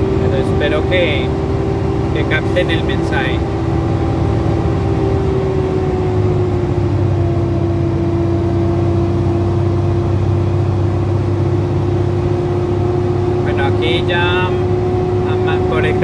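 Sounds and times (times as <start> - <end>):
steady engine whine: 0.0 - 16.0
truck engine drone: 0.0 - 16.0.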